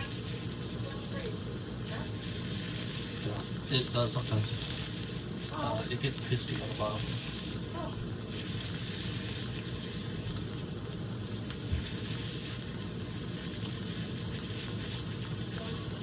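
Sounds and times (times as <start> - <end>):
patties sizzling in a pan: 0.0 - 16.0.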